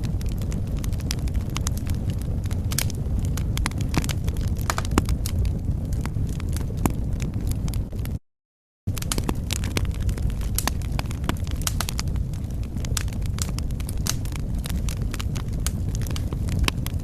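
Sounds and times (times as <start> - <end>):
low rumble of flames: 0.0 - 8.2, 8.9 - 17.0
wood fire crackling: 0.0 - 8.2, 8.9 - 17.0.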